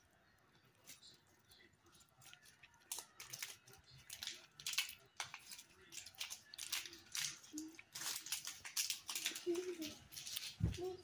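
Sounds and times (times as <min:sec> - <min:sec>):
plastic packaging crinkling and tearing: 0:00.0 - 0:11.0.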